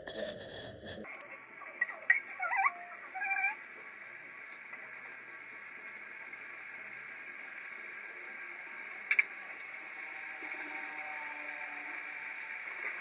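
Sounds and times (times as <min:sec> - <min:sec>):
chicken sizzling in frying pan: 0:01.1 - 0:13.0.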